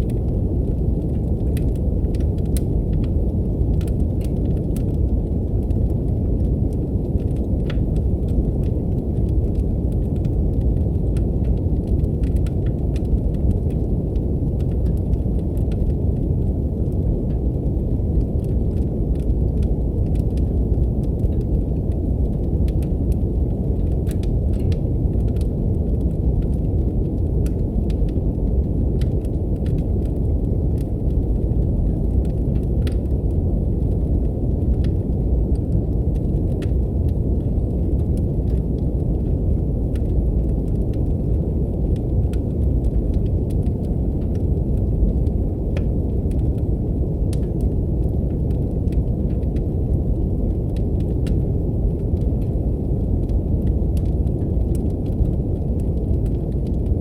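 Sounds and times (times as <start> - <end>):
brown noise hiss: 0.0 - 57.0
wood fire crackling: 0.0 - 57.0.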